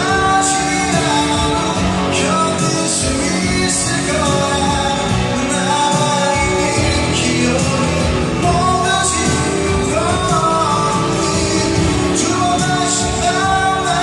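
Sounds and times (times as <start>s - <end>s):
band playing pop-rock song: 0.0s - 14.0s
person singing: 0.0s - 14.0s.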